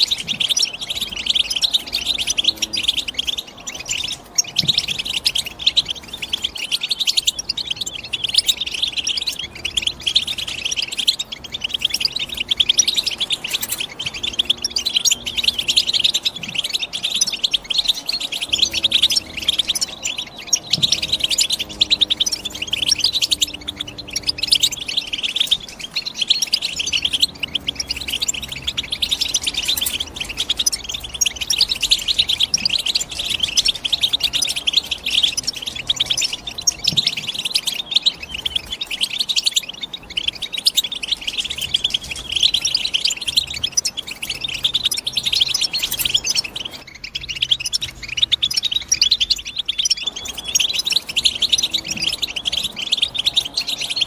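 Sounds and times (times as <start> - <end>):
finch twittering song: 0.0 - 54.0.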